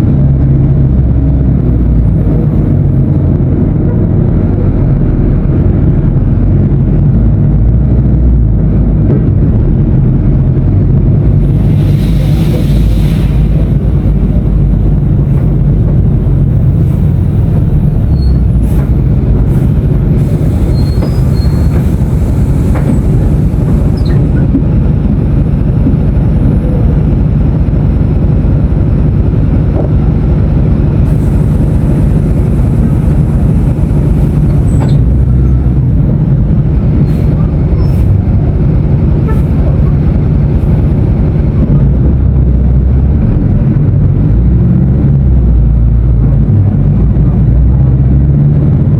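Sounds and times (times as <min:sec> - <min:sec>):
bus diesel engine rumble: 0:00.0 - 0:48.9.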